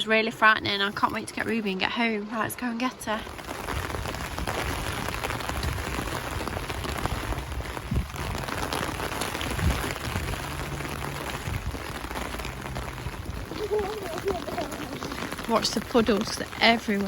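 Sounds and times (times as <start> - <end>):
heavy rain pouring: 2.9 - 17.0.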